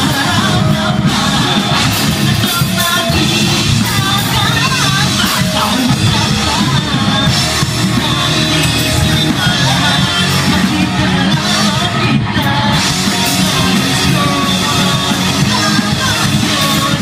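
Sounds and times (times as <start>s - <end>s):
punk band playing live: 0.0s - 17.0s.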